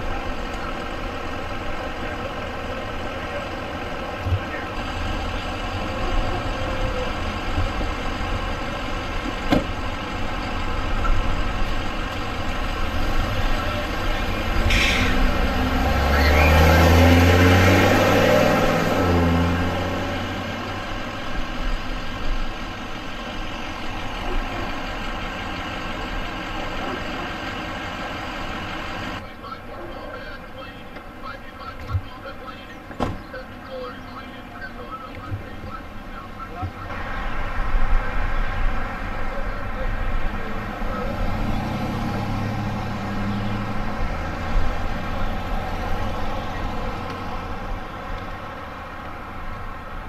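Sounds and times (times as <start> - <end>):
vehicle engine passing by: 0.0 - 29.2, 36.8 - 50.0.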